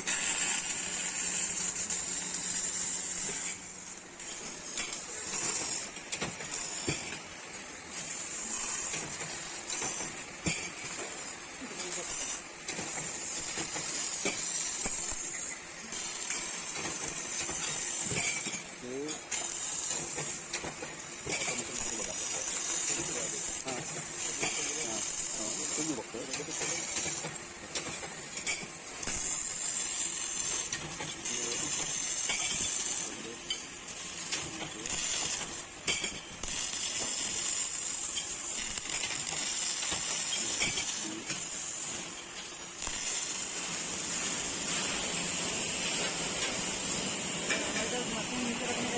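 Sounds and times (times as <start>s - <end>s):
welding arc hissing and crackling: 0.0s - 48.9s.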